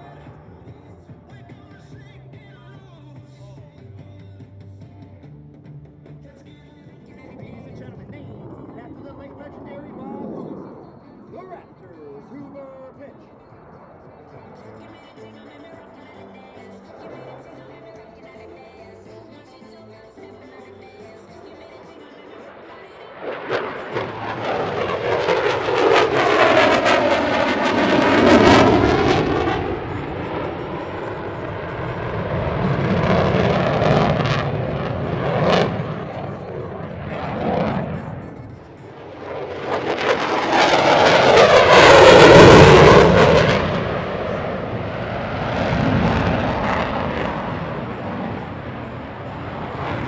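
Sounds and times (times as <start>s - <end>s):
jet engines roaring past: 0.0s - 2.2s, 6.0s - 50.0s.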